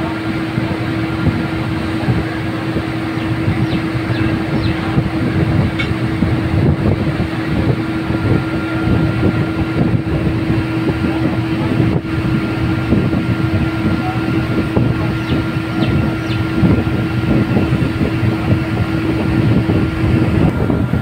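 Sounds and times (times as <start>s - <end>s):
heavy machinery engine drone: 0.0s - 21.0s.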